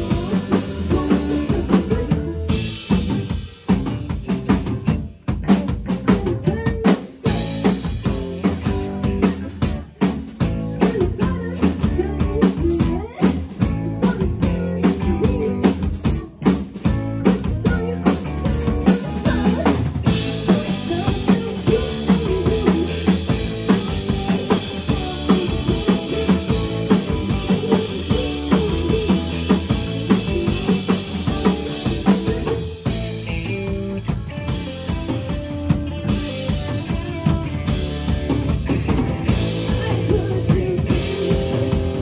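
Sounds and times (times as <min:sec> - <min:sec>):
bass guitar: 0:00.0 - 0:42.0
drum kit steady beat: 0:00.0 - 0:42.0
electric guitar: 0:00.0 - 0:42.0.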